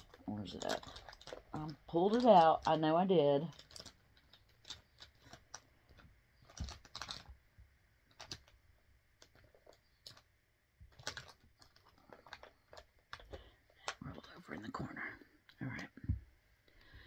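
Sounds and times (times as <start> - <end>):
small items clicking and tapping: 0.0 - 14.6.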